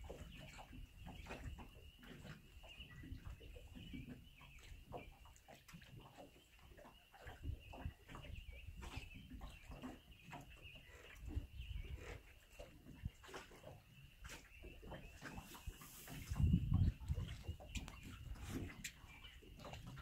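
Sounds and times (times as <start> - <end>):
water splashing against boat hull: 0.0 - 20.0.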